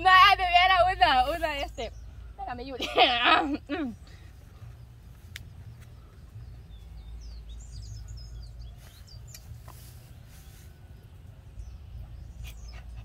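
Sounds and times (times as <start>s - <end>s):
birds chirping: 0.0s - 13.0s
low outdoor rumble: 0.0s - 13.0s.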